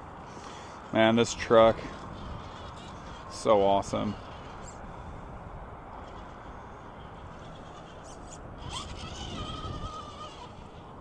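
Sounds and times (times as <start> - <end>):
steady background noise: 0.0 - 11.0
electric motor whine: 1.3 - 11.0.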